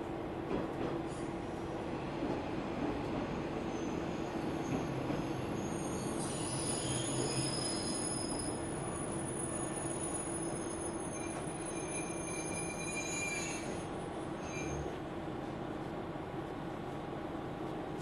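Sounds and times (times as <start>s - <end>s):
railcar rumbling on rails: 0.0s - 18.0s.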